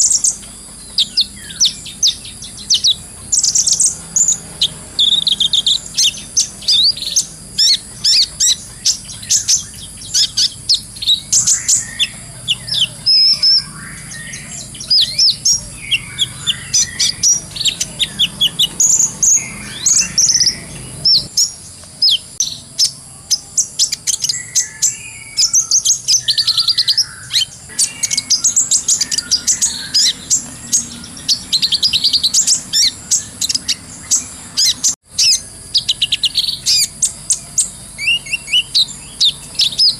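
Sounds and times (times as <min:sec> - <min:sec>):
bird high-pitched chirps: 0:00.0 - 0:39.9.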